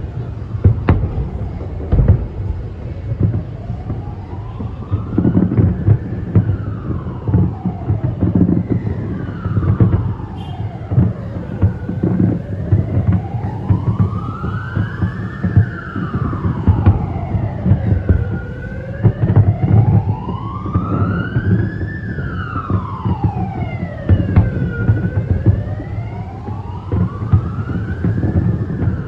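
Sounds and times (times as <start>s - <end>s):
fireworks thuds and rumble: 0.0s - 29.0s
siren wailing: 0.0s - 29.0s.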